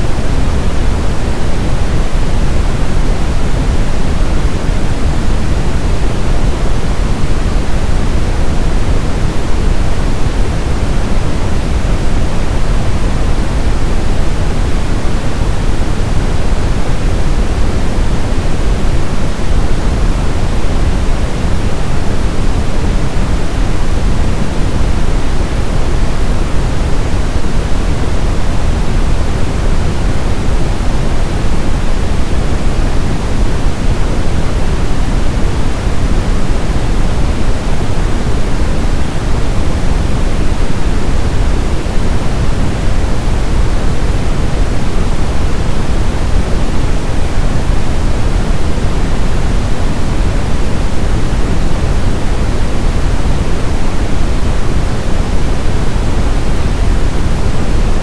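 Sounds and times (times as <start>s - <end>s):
steady brown noise: 0.0s - 58.0s.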